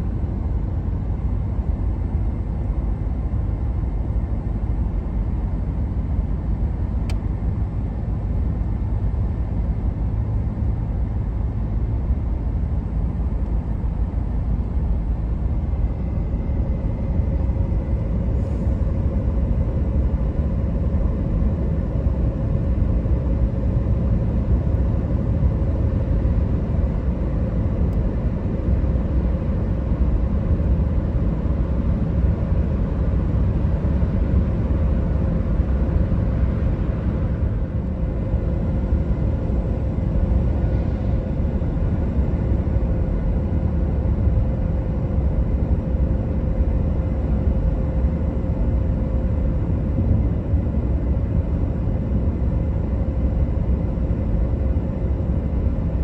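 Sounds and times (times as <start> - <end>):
car road rumble in cabin: 0.0 - 55.9
faint steady hum: 0.0 - 56.0.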